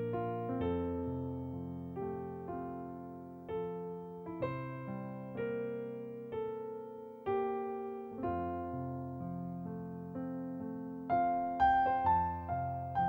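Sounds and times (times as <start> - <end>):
slow gentle piano chords: 0.0 - 13.0.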